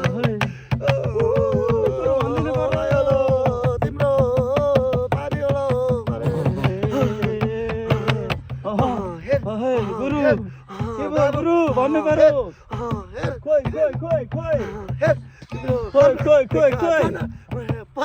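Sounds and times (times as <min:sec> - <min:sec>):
hand drum percussion: 0:00.0 - 0:18.0.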